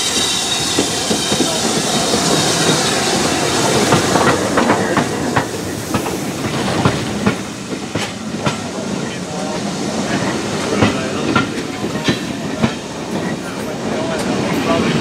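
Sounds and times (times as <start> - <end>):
steam hissing: 0.0 - 15.0
steam locomotive passing: 0.0 - 15.0.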